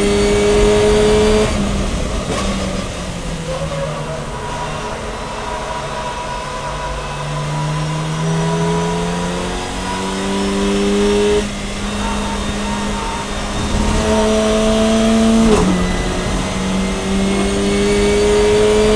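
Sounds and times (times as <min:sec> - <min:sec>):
gear upshift: 0:00.0 - 0:18.9
race car engine accelerating: 0:00.0 - 0:18.9.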